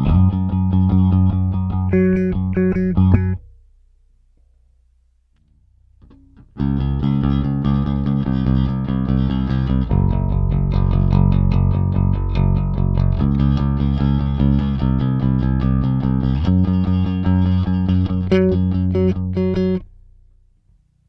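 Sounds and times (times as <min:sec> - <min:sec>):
picked bass guitar notes: 0:00.0 - 0:04.4, 0:05.4 - 0:20.7
faint low hum: 0:00.0 - 0:21.0.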